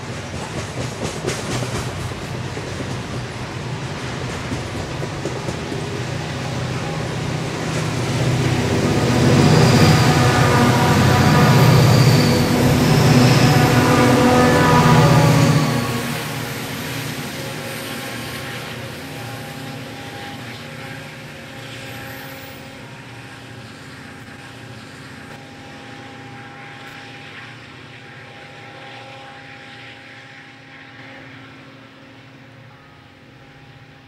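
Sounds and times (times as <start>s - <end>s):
diesel locomotives droning: 0.0s - 34.0s.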